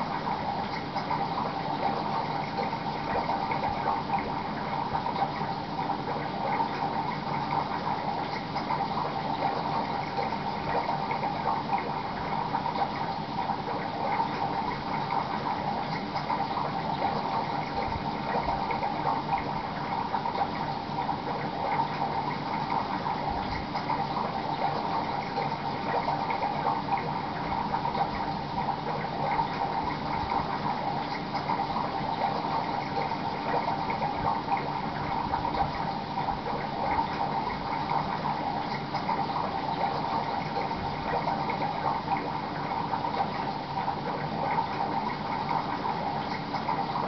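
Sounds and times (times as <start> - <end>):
aquarium water bubbling: 0.0 - 47.0.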